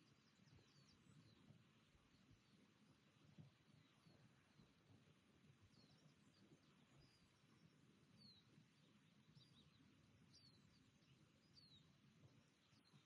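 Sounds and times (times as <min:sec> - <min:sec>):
distant birdsong: 0:00.0 - 0:13.0.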